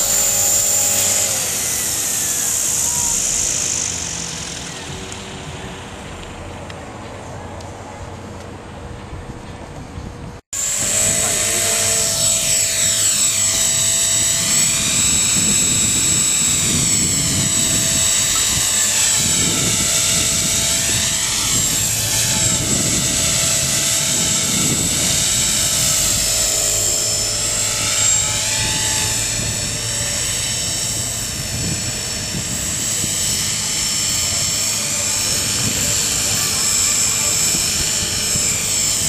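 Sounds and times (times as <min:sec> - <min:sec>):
rc helicopter motor whine: 0:00.0 - 0:06.4, 0:10.6 - 0:39.0
rotor blades whooshing: 0:00.0 - 0:06.5, 0:10.6 - 0:39.0.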